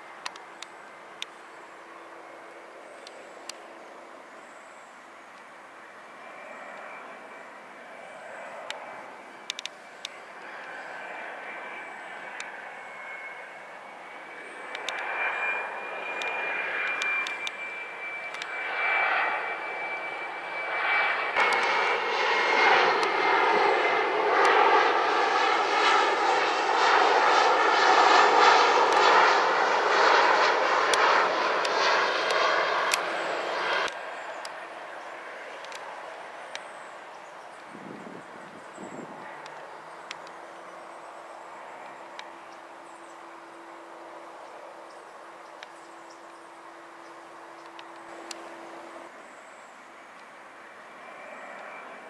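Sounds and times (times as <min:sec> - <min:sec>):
jet engines whining and roaring: 0:00.0 - 0:52.0.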